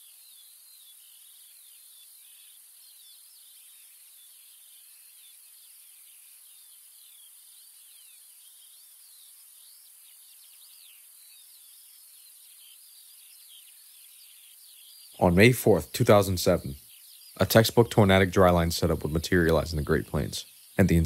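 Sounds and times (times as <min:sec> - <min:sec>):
small birds chirping: 0:00.0 - 0:21.0
steady high hiss: 0:00.0 - 0:21.0.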